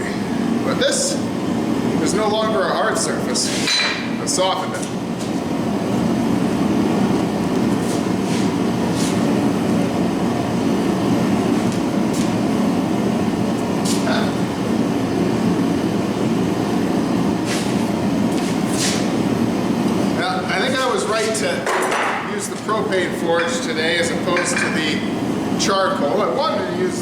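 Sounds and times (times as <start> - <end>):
forge burner running: 0.0 - 27.0.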